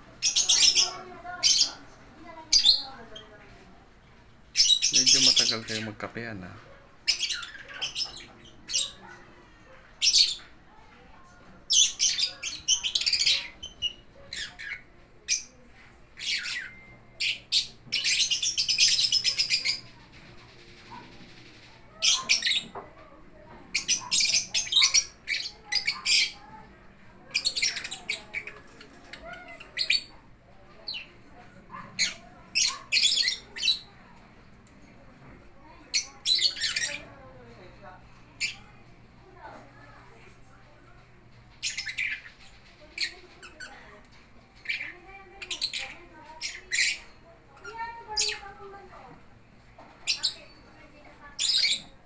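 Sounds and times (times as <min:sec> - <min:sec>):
birds chirping and squawking: 0:00.0 - 0:52.0.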